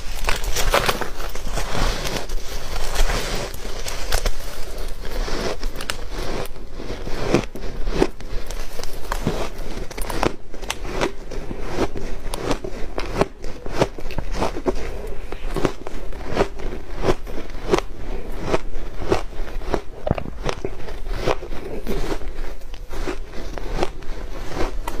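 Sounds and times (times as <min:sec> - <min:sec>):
ice crunching being chewed: 0:00.0 - 0:25.0.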